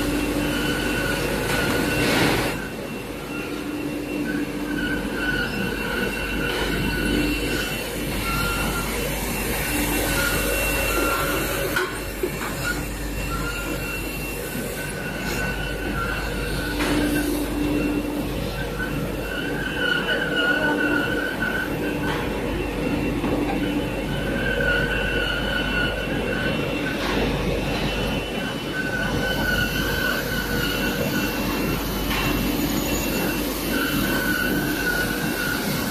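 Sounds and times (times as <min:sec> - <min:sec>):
factory machine noise: 0:00.0 - 0:35.9
high machine whine: 0:00.0 - 0:35.9.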